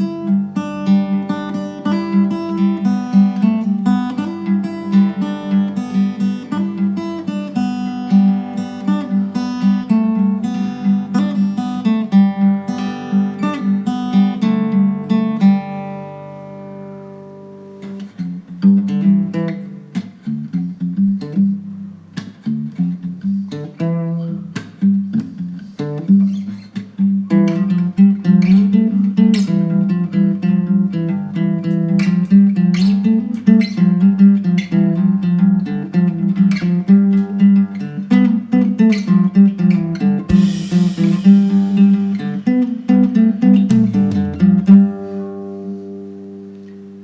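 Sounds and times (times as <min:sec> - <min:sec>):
acoustic guitar picking: 0:00.0 - 0:47.0.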